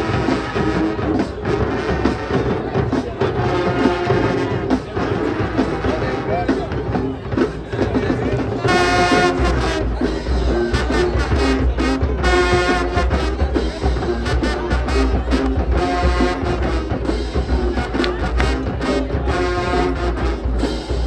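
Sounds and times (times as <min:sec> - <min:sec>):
brass chords: 0:00.0 - 0:21.0
marching drums: 0:00.0 - 0:21.0.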